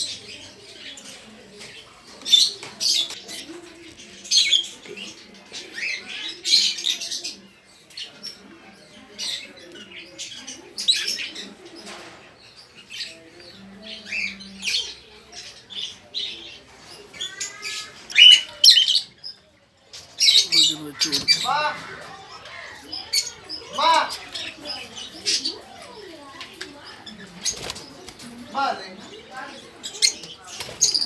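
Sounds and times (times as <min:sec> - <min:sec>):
lovebirds chirping and squeaking: 0:00.0 - 0:31.0.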